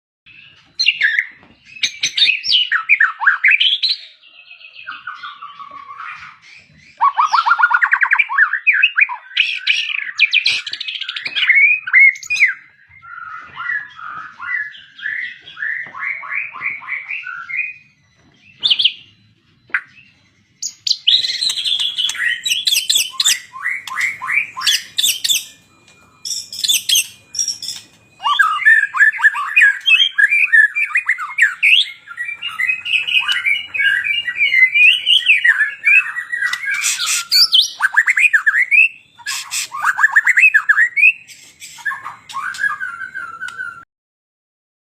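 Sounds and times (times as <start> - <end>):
songbird singing whistles and trills: 0.3 - 43.9.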